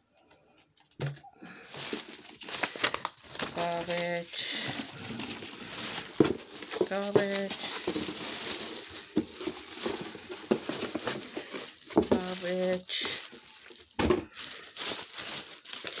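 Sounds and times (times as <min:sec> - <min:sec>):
bag rustling and crinkling: 0:01.5 - 0:16.0.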